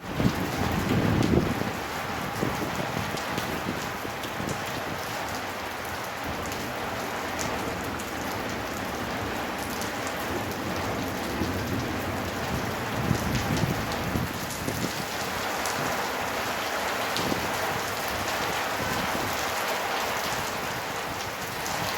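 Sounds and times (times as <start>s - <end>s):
heavy rain on hard surfaces: 0.0s - 21.9s.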